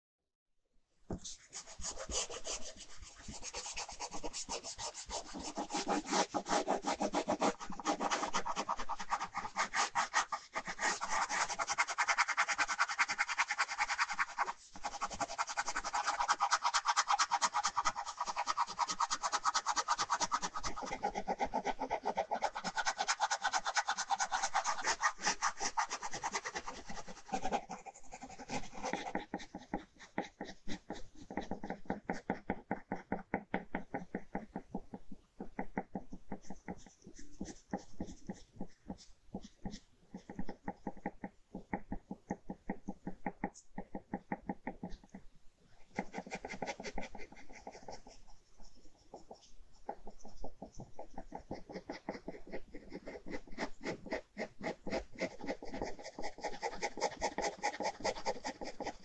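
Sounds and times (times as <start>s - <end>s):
ballpoint pen scratching on paper: 1.1s - 59.0s.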